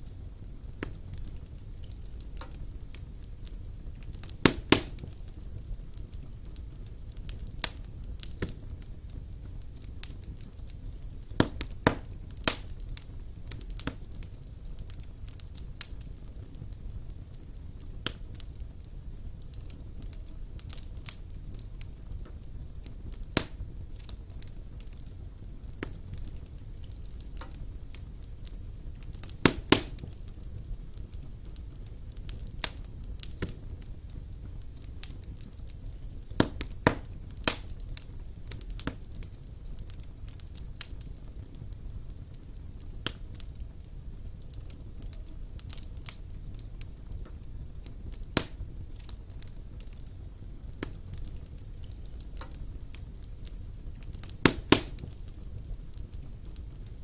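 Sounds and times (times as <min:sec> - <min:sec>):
low steady rumble: 0:00.0 - 0:57.0
wood fire crackling and popping: 0:00.0 - 0:57.0.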